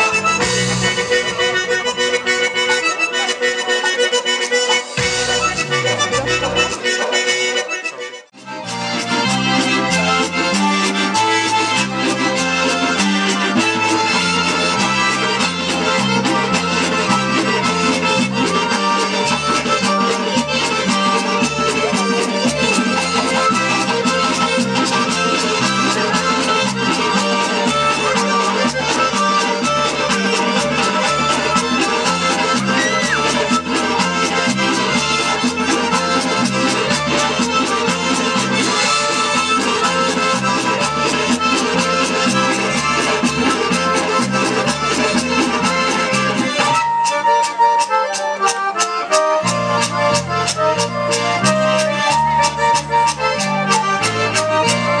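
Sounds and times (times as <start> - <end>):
accordion folk dance music: 0.0 - 55.0.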